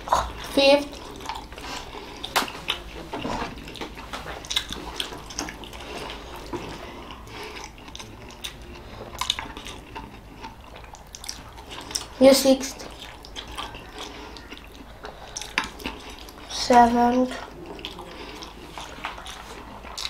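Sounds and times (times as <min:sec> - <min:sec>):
wet chewing and mouth sounds: 0:00.0 - 0:20.0.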